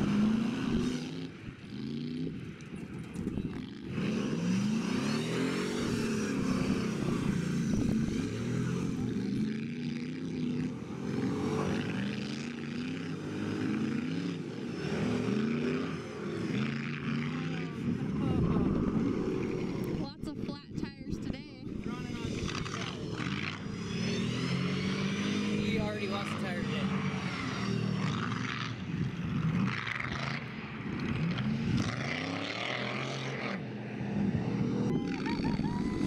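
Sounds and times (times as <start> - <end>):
truck engine revving hard: 0.0 - 2.4, 3.5 - 20.2, 21.2 - 36.0.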